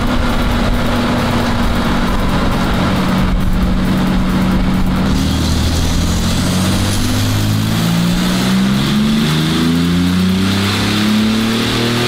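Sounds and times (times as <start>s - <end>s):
car engine revving on dyno: 0.0s - 12.0s.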